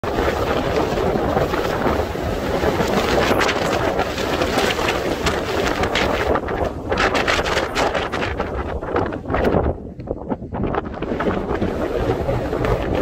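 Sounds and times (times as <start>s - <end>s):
low aircraft rumble: 0.0s - 13.0s
wind buffeting microphone: 0.0s - 13.0s.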